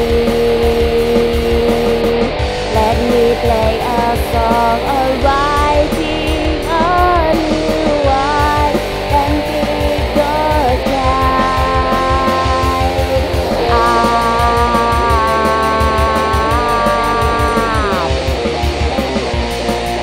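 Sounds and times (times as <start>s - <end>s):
song with guitar and beat: 0.0s - 20.0s.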